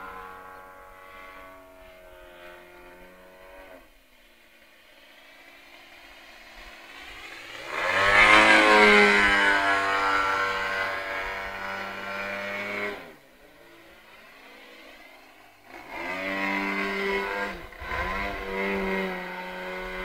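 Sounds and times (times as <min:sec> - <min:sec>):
model plane engine: 0:00.0 - 0:20.0.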